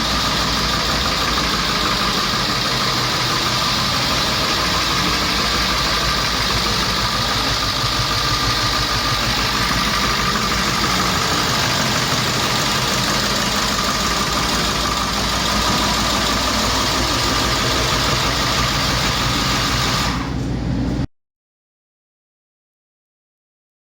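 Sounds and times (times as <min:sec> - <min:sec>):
diesel engine idling: 0:00.0 - 0:21.1.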